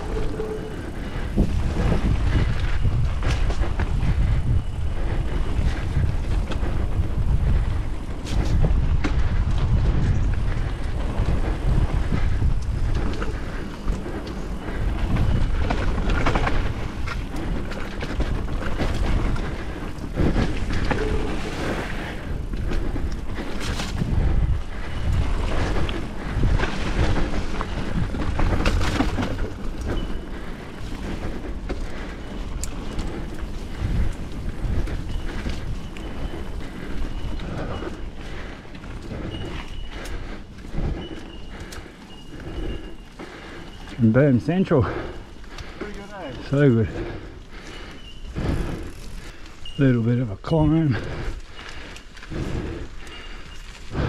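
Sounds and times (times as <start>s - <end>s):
bike rattling over bumps: 0.0s - 54.0s
bike tyre noise on dirt: 0.0s - 54.0s
wind rumble on microphone: 0.0s - 54.0s.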